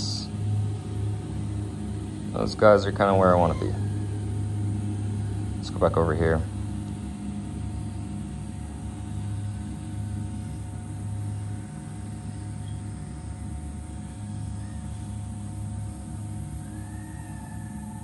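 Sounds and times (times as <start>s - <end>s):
drone motors humming: 0.0s - 18.0s.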